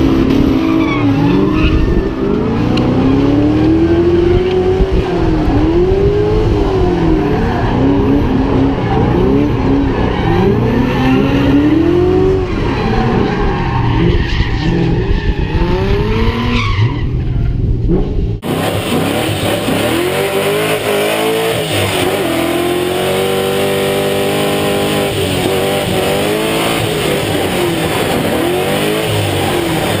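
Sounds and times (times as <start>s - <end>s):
car engine revving hard: 0.0s - 13.2s, 18.4s - 30.0s.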